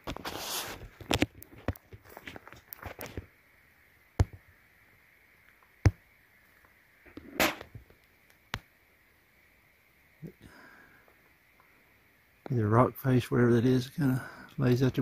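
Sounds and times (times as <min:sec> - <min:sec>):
faint high hiss: 0:00.0 - 0:15.0.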